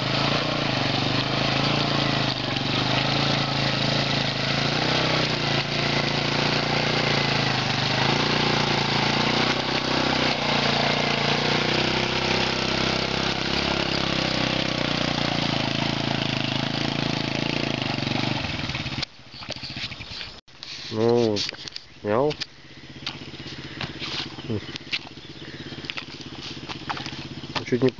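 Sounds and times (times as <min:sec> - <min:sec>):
motorcycle engine under load: 0:00.0 - 0:27.9.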